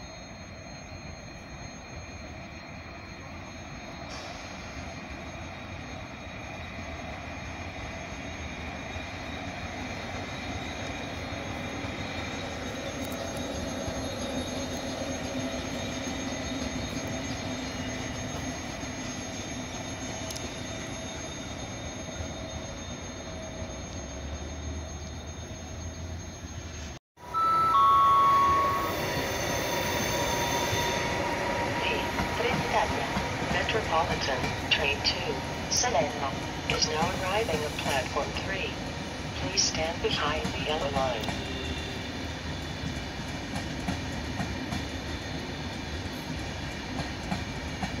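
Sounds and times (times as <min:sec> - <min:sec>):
faint high whine: 0:00.0 - 0:42.0
electric train passing: 0:00.0 - 0:48.0.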